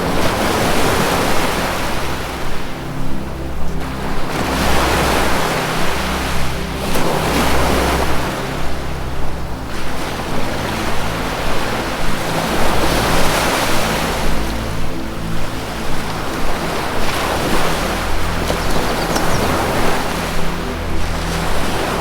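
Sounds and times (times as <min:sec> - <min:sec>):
low ambient music tones: 0:00.0 - 0:22.0
ocean waves surging: 0:00.0 - 0:22.0.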